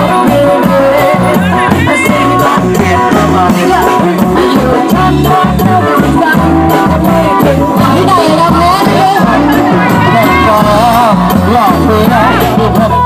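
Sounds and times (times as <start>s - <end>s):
brass band playing dance music: 0.0s - 13.0s.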